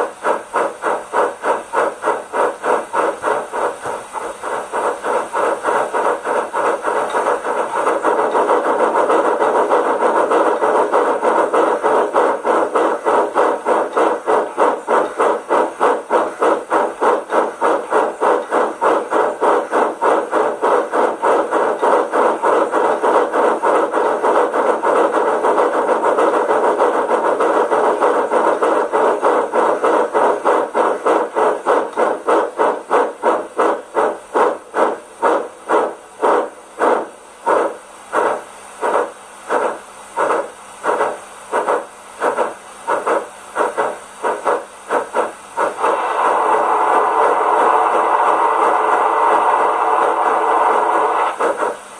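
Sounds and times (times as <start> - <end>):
model train steam chuffs: 0.0 - 51.9.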